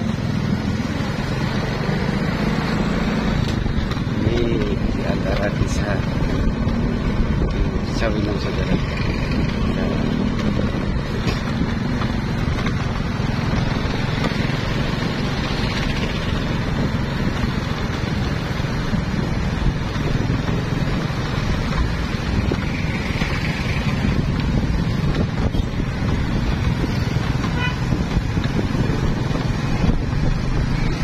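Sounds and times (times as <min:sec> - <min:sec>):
motorcycle engines rumbling: 0:00.0 - 0:31.0
wind buffeting microphone: 0:03.3 - 0:31.0.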